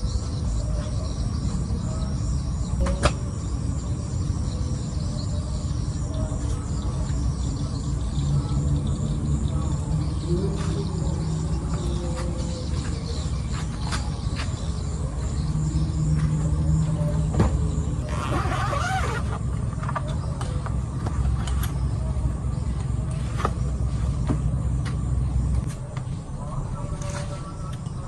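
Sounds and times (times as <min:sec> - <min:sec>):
vehicle engine low rumble: 0:00.0 - 0:28.0.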